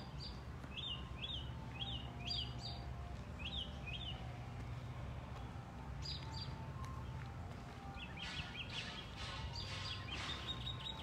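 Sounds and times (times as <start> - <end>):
small birds chirping: 0.0 - 4.4, 5.5 - 11.0.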